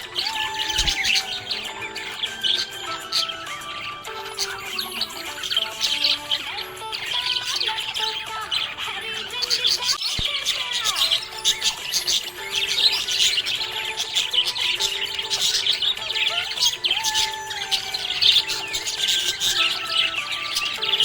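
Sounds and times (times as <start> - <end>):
background music with held notes: 0.0 - 21.0
budgerigar chirping and warbling: 0.0 - 21.0.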